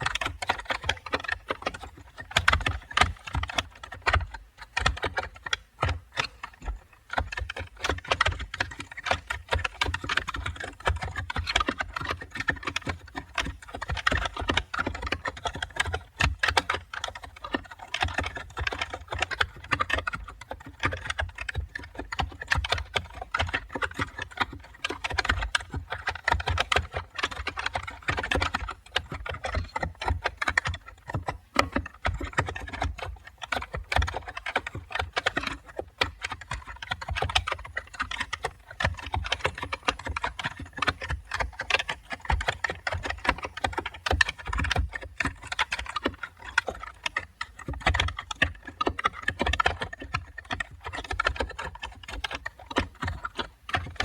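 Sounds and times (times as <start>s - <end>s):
typing on a keyboard: 0.0s - 54.0s.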